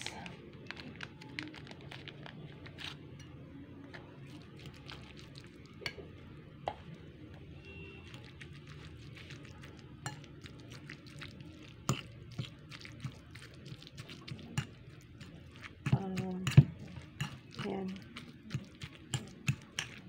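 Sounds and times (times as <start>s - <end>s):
spoon stirring in ceramic bowl: 0.1s - 6.8s, 8.0s - 20.0s.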